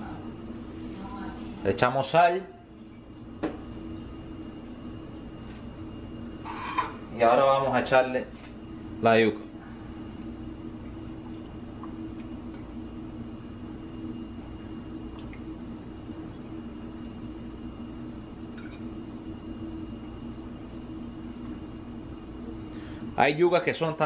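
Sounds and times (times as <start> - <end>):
low hum with hiss: 0.0 - 24.0.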